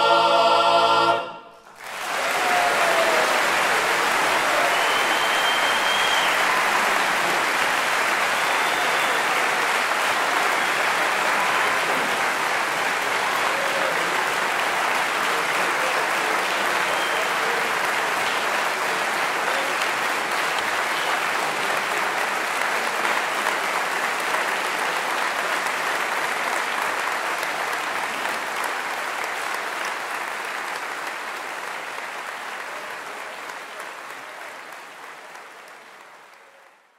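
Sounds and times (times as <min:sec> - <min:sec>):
audience applauding: 0:01.6 - 0:36.9.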